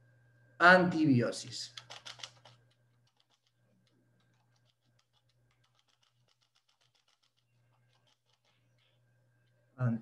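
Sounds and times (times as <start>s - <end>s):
low electrical hum: 0.0s - 10.0s
faint keyboard typing: 1.6s - 9.6s.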